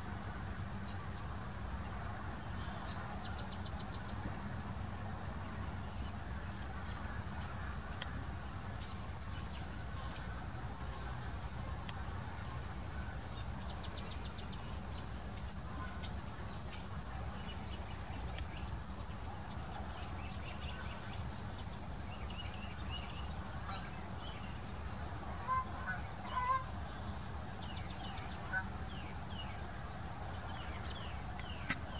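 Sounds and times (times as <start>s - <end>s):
small birds chirping: 0.5s - 4.9s, 5.8s - 31.9s.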